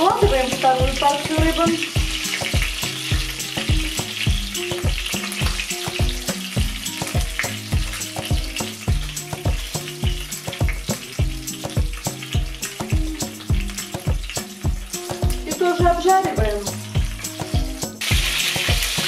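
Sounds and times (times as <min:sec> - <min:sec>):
background music with steady beat: 0:00.0 - 0:19.0
fish sizzling in hot oil: 0:00.0 - 0:19.0.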